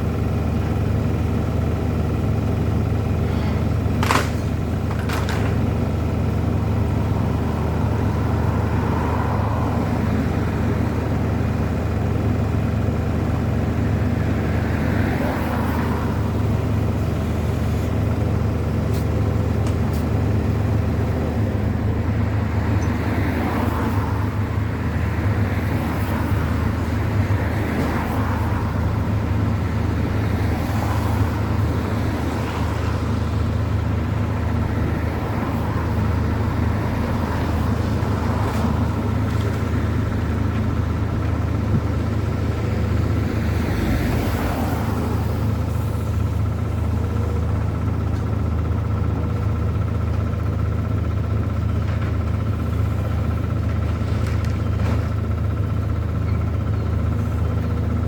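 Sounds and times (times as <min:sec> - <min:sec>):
motor vehicle engine rumble: 0:00.0 - 0:58.0.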